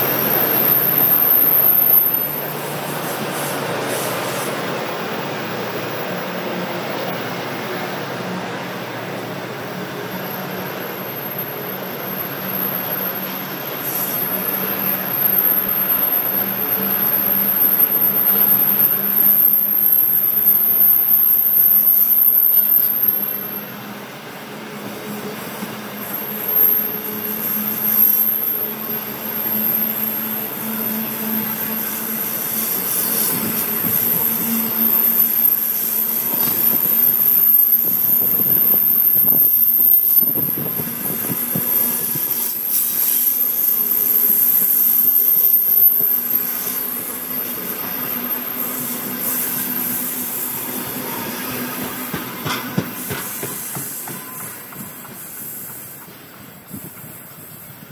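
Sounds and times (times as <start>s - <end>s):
high-pitched wheel squeal: 0.0s - 8.2s, 9.9s - 24.2s, 24.8s - 57.8s
freight train wheels on rails: 0.0s - 57.9s.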